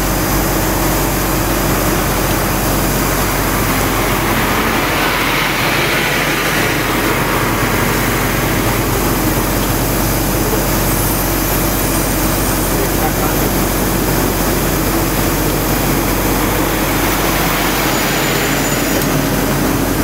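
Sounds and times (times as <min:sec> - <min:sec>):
machine drone with hiss: 0:00.0 - 0:20.0.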